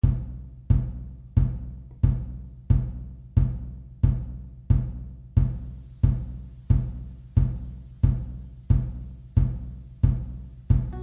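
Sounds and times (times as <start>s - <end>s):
deep drum booming: 0.0s - 11.0s.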